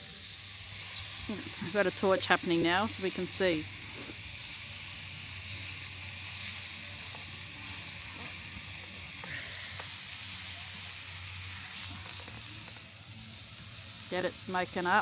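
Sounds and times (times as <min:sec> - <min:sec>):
meat sizzling over campfire: 0:00.0 - 0:15.0.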